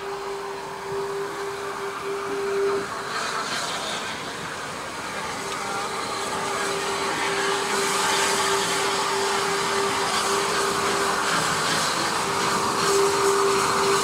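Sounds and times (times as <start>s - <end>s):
steady humming tone: 0.0s - 14.0s
steam locomotive hissing: 0.0s - 14.0s.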